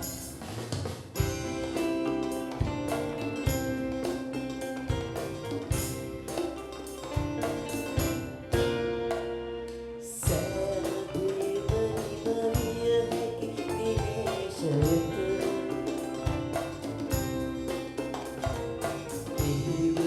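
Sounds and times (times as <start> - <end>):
drums keeping a beat: 0.0 - 20.0.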